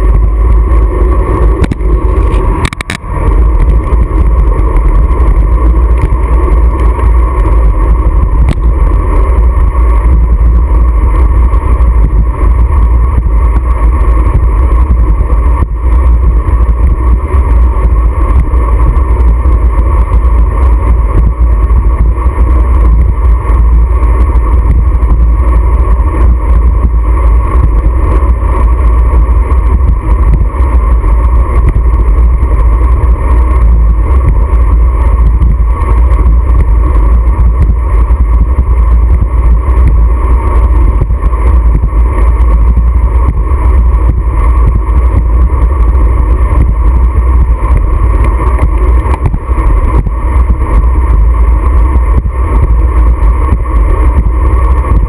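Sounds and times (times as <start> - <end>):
steady mid-pitched hum: 0.0 - 55.0
wind buffeting microphone: 0.0 - 55.0.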